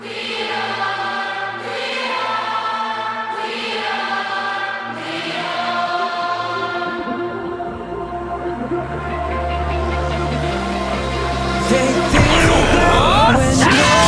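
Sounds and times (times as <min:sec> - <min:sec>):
sustained choir-like chords: 0:00.0 - 0:14.0.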